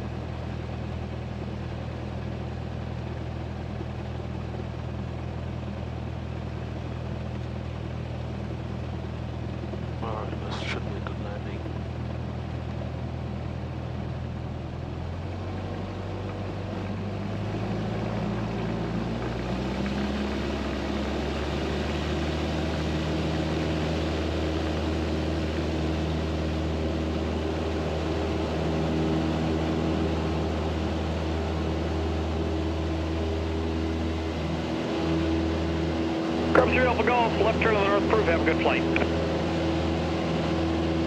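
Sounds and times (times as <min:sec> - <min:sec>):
piston aircraft engine and propeller: 0:00.0 - 0:41.0.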